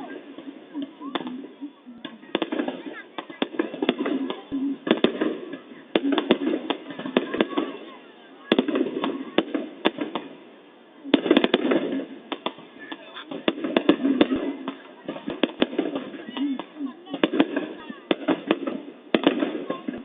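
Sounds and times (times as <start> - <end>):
fireworks banging and crackling: 0.0 - 20.0
people talking: 0.0 - 20.0.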